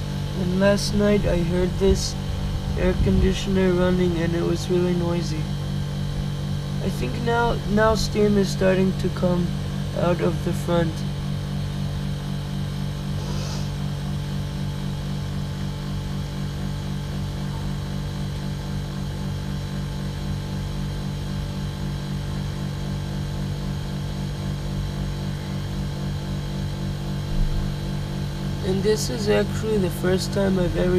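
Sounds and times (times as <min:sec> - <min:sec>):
compressor humming: 0:00.0 - 0:30.9.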